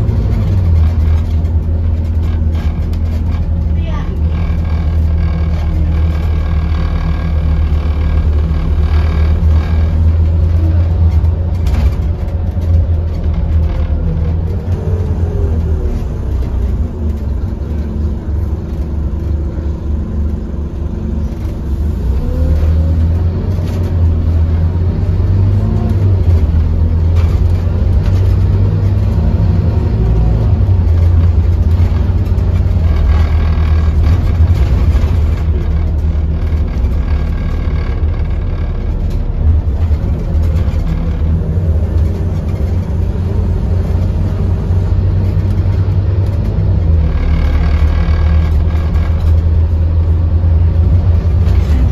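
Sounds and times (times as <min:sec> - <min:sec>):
bus diesel engine rumble: 0:00.0 - 0:51.9.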